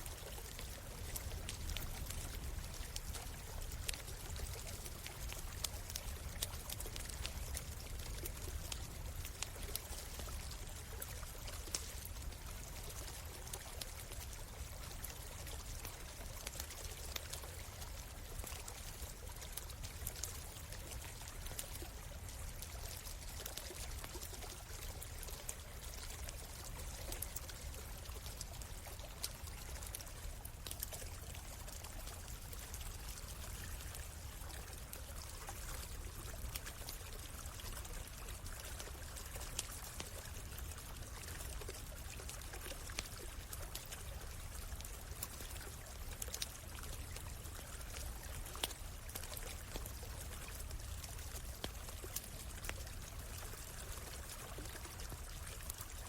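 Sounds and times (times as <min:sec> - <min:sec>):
stream trickling: 0:00.0 - 0:56.0
campfire crackling and popping: 0:00.1 - 0:56.0.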